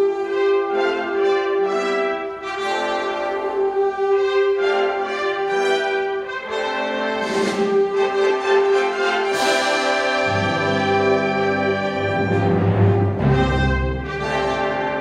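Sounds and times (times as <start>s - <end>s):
wind band brass chords: 0.0s - 15.0s.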